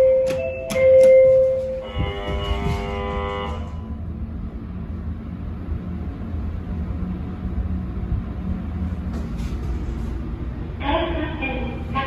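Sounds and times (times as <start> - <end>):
elevator hum and rumble: 0.0 - 12.0.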